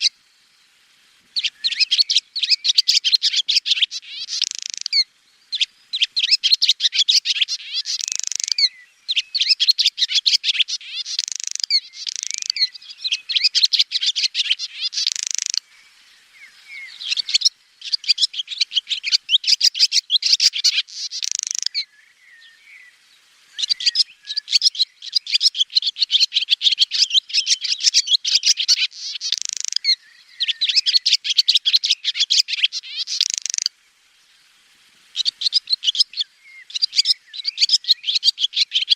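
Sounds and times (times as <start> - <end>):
swallow twittering: 0.0 - 0.2, 1.4 - 33.7, 35.1 - 38.9.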